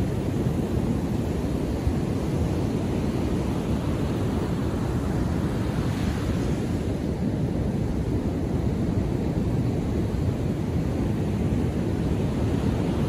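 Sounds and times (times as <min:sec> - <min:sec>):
ocean surf breaking on beach: 0:00.0 - 0:13.0
wind rumble on microphone: 0:00.0 - 0:13.0.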